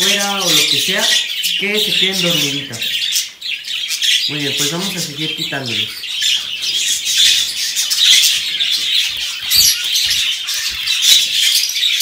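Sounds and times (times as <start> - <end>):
caged birds chattering and chirping: 0.0 - 12.0.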